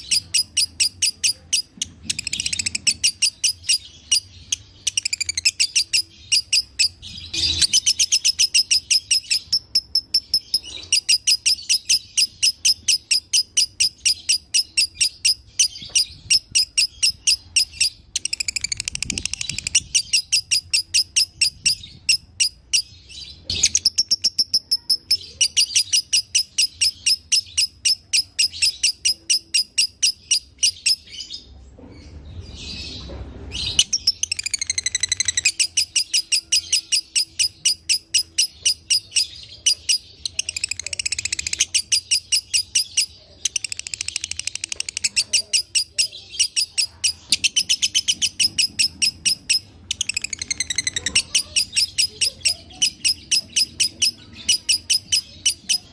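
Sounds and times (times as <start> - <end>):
lovebird chattering trill: 0.0 - 31.1, 33.7 - 55.9.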